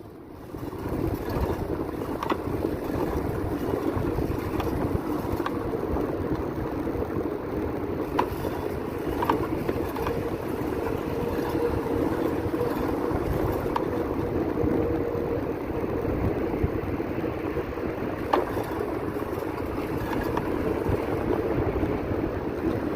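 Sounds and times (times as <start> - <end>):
bicycle clicking: 0.0 - 22.9
wind and road noise: 0.0 - 22.9.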